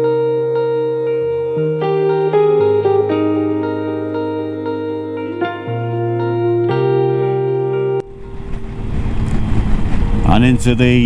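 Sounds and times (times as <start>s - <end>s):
held chords over bass line: 0.0s - 11.0s.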